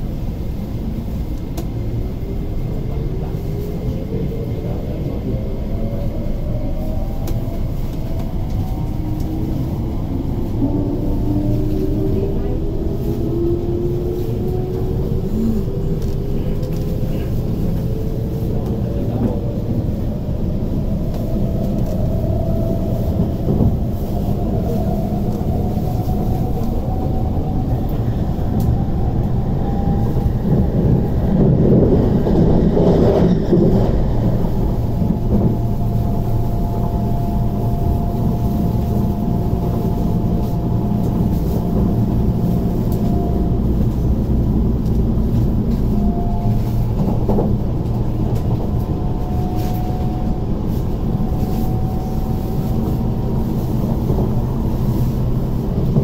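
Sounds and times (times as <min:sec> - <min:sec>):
wheels rumbling on track: 0:00.0 - 0:56.0.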